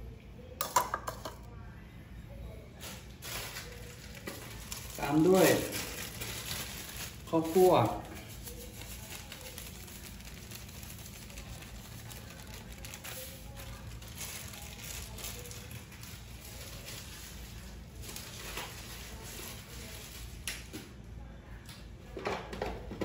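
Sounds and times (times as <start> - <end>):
low hum and hiss: 0.0 - 22.3.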